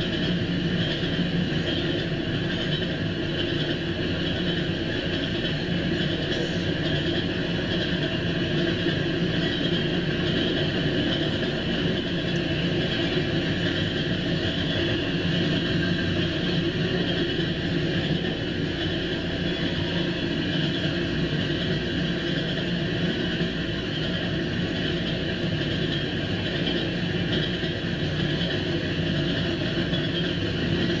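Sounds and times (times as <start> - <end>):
freight train wheels on rails: 0.0 - 31.0.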